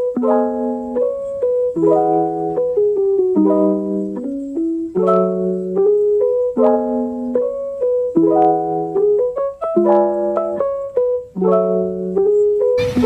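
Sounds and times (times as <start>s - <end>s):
keyboard melody over chords: 0.0s - 13.0s.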